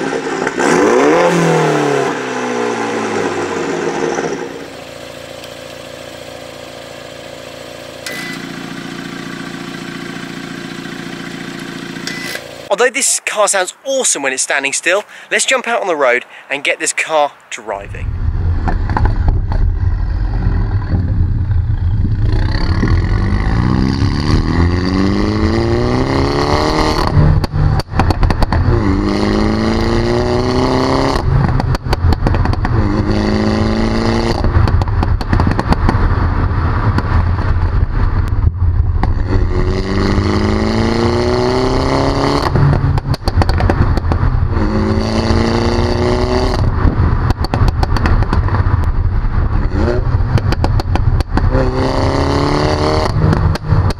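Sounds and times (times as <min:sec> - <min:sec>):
car engine accelerating: 0:00.0 - 0:12.7, 0:17.7 - 0:53.9
exhaust crackles: 0:00.0 - 0:53.9.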